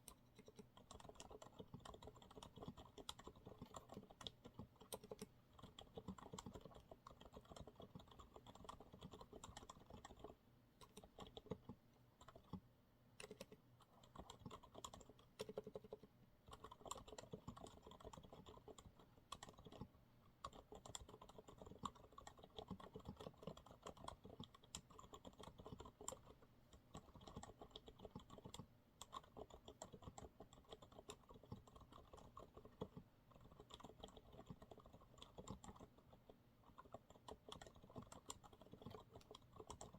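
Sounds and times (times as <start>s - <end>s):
quiet keyboard typing: 0.0s - 39.9s.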